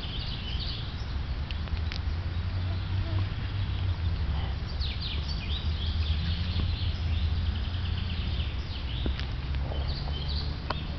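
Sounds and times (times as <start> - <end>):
small birds chirping: 0.0 - 10.9
steady low rumble: 0.0 - 10.9.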